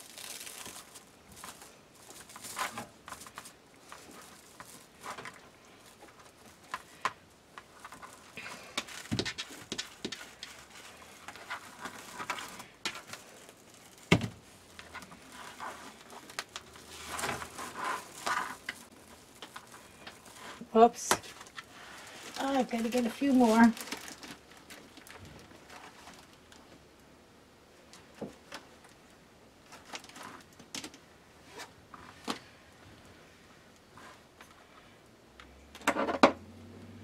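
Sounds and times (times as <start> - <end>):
plastic mesh rustling and crinkling: 0.0 - 27.0, 27.8 - 35.0.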